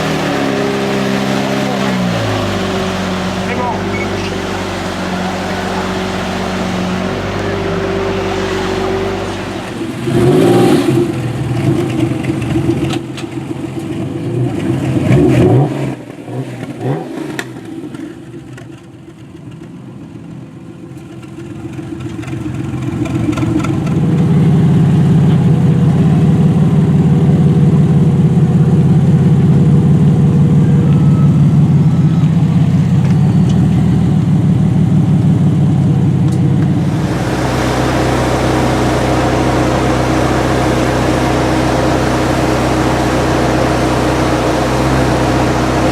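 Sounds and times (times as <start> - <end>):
sports car engine revving: 0.0 - 18.8, 21.2 - 45.9
loud steady car exhaust: 0.0 - 45.9.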